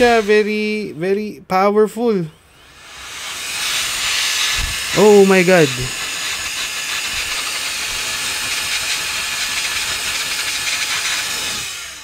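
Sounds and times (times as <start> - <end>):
electric air duster rushing air: 0.0 - 0.7, 2.4 - 12.0.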